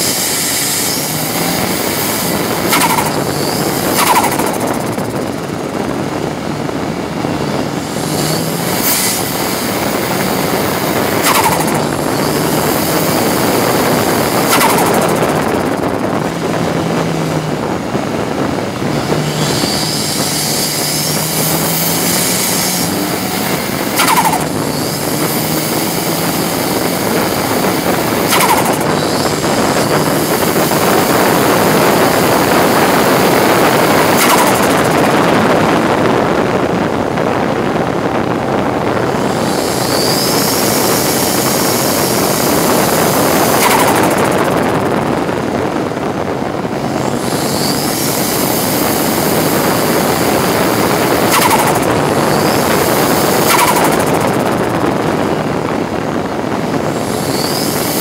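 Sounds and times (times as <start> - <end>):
short sharp engine bursts: 0.0 - 5.9, 7.5 - 17.6, 18.5 - 36.3, 38.9 - 45.3, 46.1 - 55.8, 56.8 - 58.0
race car engine accelerating: 0.0 - 58.0
road noise: 0.0 - 58.0.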